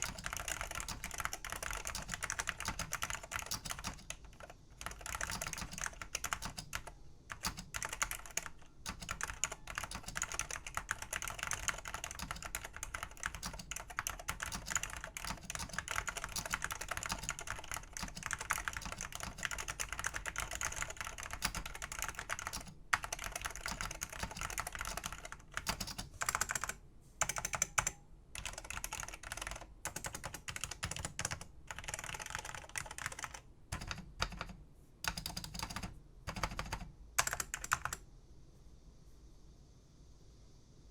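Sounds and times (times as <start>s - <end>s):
keyboard typing clicks and clacks: 0.0s - 38.0s.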